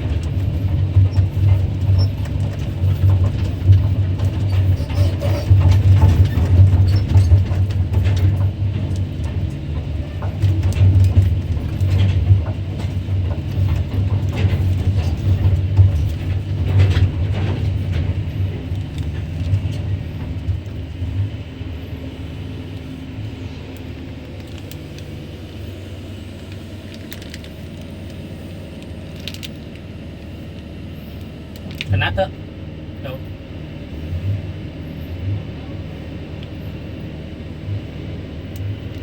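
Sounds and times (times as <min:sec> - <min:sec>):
excavator engine droning: 0:00.0 - 0:39.0.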